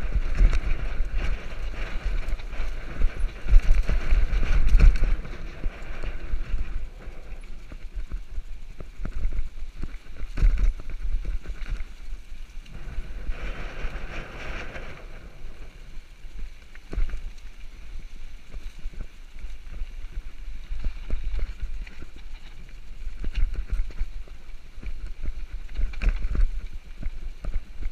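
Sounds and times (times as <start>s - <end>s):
wind rumble on microphone: 0.0s - 27.9s.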